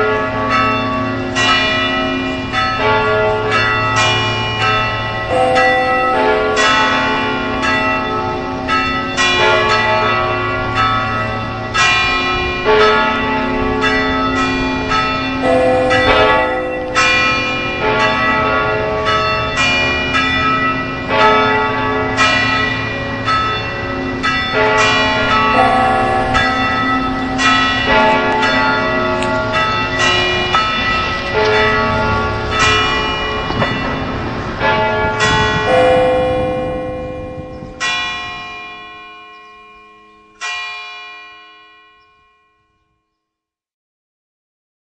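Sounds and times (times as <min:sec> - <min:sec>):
church bells pealing: 0:00.0 - 0:43.1.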